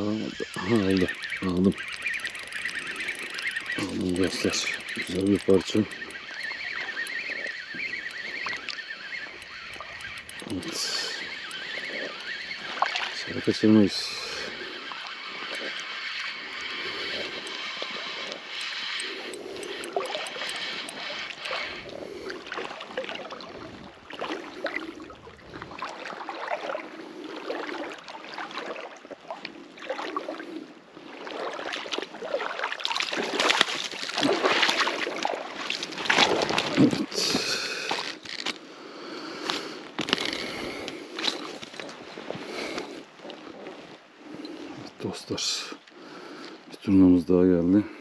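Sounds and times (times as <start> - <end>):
water sloshing and splashing: 0.0 - 38.6, 39.9 - 45.0.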